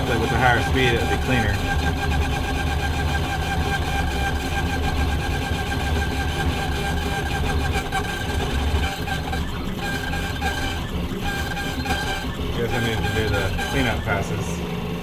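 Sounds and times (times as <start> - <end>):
router spindle whining: 0.0 - 15.0
stepper motors driving: 0.0 - 15.0.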